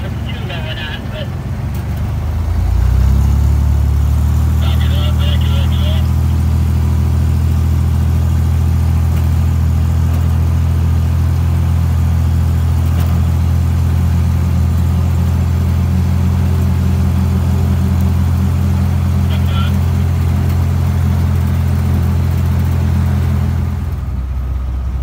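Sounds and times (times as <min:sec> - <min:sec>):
car engine droning: 0:00.0 - 0:25.0
road and wind noise: 0:00.0 - 0:25.0.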